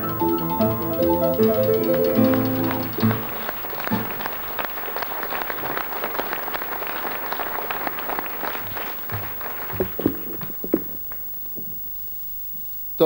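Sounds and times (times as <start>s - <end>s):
audience applause: 0.0s - 11.8s.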